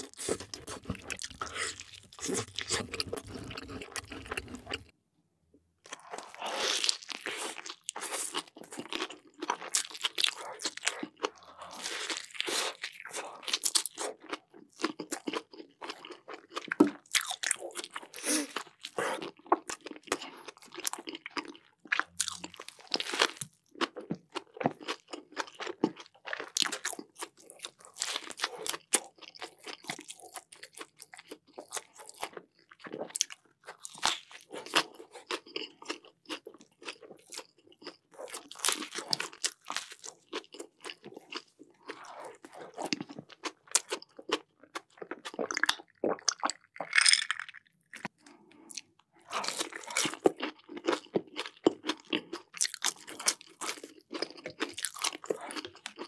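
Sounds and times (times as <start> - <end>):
crunchy burger crunching: 0.0 - 4.9, 5.9 - 56.0
person chewing: 0.0 - 4.9, 5.8 - 56.0.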